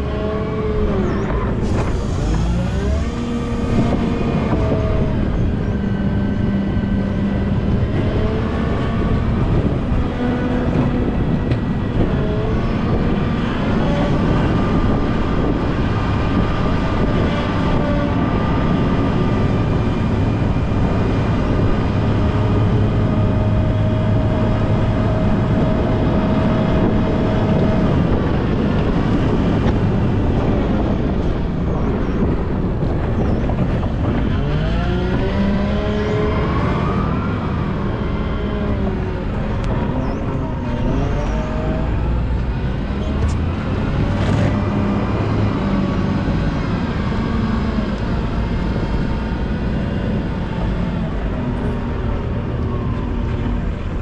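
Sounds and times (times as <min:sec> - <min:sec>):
wheel loader diesel engine revving: 0:00.0 - 0:33.2, 0:33.8 - 0:54.0.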